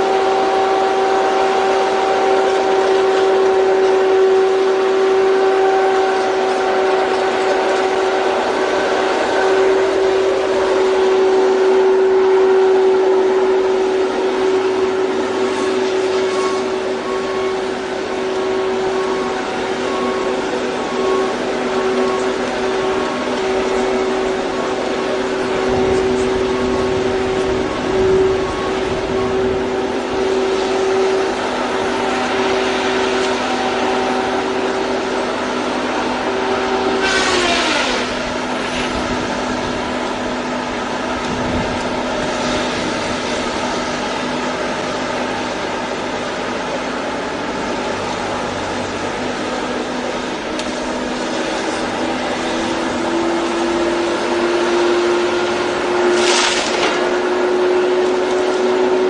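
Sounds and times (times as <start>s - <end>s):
machine engine droning: 0.0s - 59.0s.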